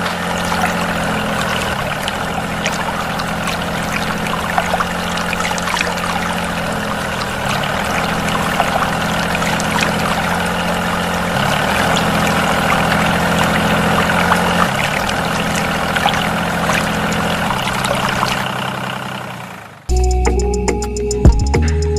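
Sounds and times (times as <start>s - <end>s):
low hum: 0.0s - 18.7s
water pouring and splashing: 0.0s - 19.2s.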